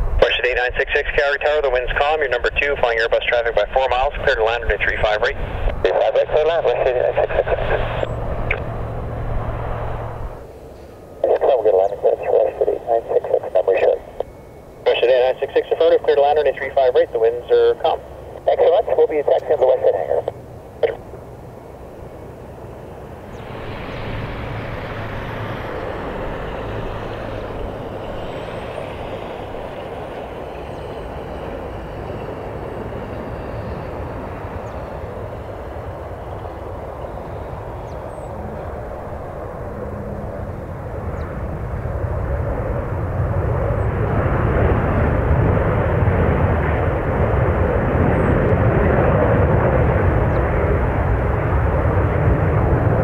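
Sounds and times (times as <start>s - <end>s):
jet engine rumble: 0.0s - 53.0s.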